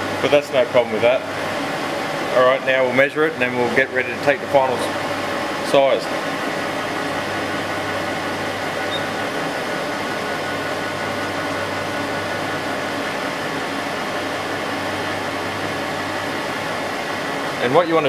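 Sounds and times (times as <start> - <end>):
grinder machine humming: 0.0 - 18.0.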